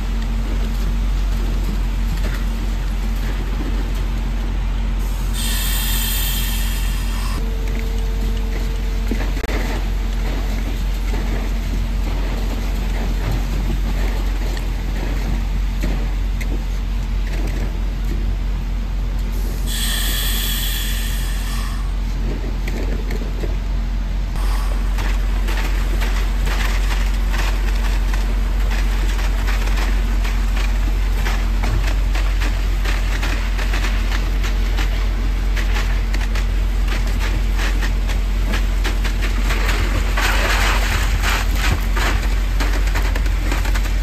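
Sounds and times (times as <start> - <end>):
concrete pump engine drone: 0.0 - 44.0.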